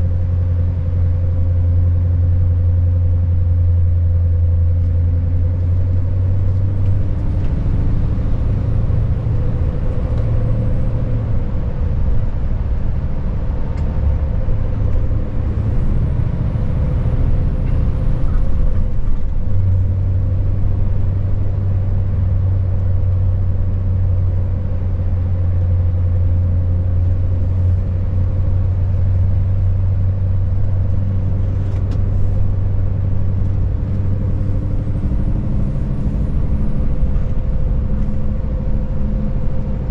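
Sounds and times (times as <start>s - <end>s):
diesel truck engine droning: 0.0s - 39.9s
tyre and road noise: 4.6s - 39.9s.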